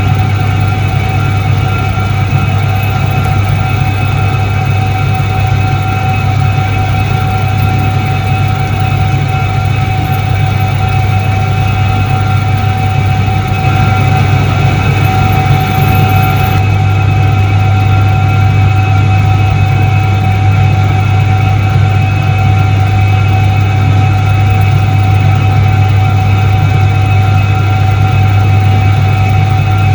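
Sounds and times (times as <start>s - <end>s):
washing machine motor humming: 0.0s - 29.9s.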